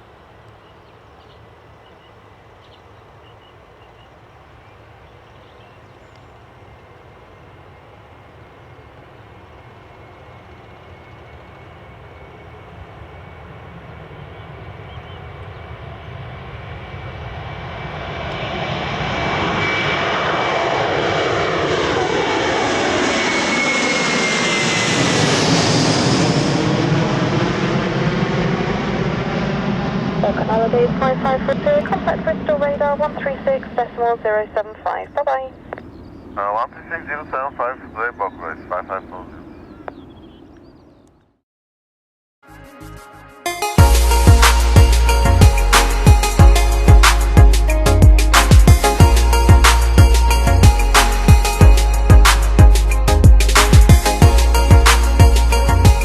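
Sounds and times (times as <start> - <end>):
high jet whine: 6.4 - 39.3, 43.4 - 56.0
jet engines roaring: 6.4 - 39.9, 43.5 - 56.0.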